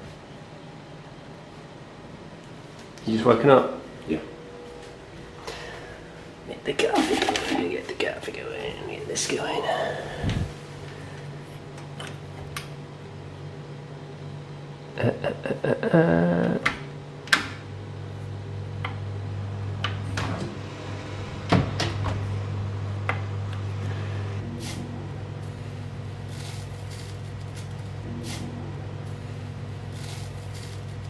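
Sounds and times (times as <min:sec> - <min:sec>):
kitchen appliance humming: 0:04.3 - 0:15.0, 0:16.3 - 0:31.0.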